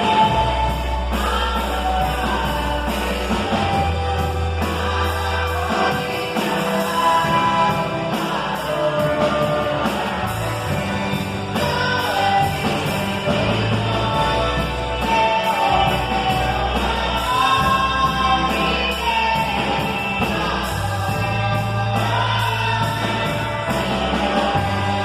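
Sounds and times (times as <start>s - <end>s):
band playing: 0.0s - 25.0s.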